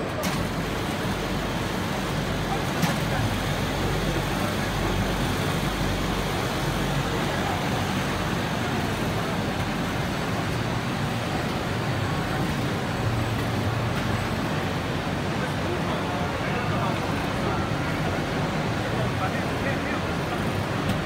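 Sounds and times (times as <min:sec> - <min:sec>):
printing machine running: 0:00.0 - 0:21.0.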